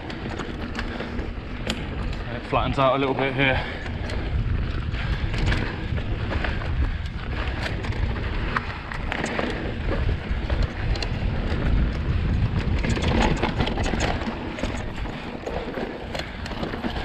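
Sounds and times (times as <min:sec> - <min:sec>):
bike ticks and rattles: 0:00.0 - 0:17.0
bike tyres rolling over dirt: 0:00.0 - 0:17.0
wind rumbling on microphone: 0:00.0 - 0:17.0.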